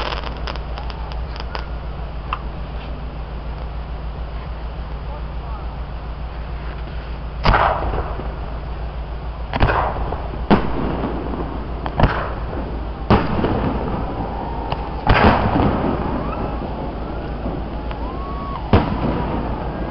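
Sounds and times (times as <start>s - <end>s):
fireworks bangs: 0.0s - 4.4s, 6.1s - 19.9s.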